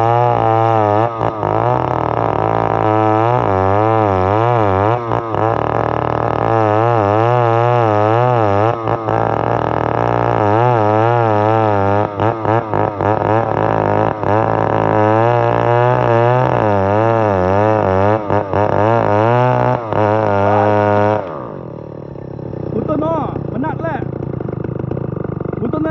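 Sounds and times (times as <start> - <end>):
chainsaw cutting log: 0.0 - 25.9.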